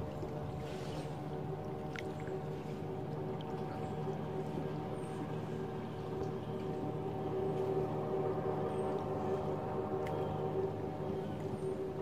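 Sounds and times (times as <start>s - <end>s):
distant motorboat engine drone: 0.0s - 12.0s
water lapping at shore: 0.0s - 12.0s.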